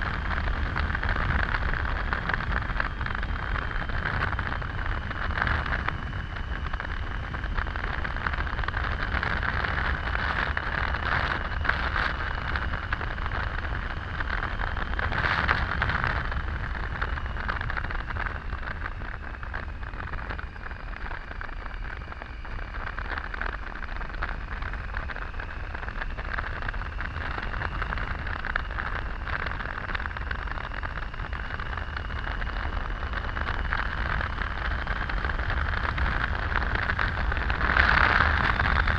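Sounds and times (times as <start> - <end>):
faint steady whine: 0.0 - 38.9
motorcycle engine rumble: 0.0 - 38.9
wind and road noise: 0.0 - 38.9.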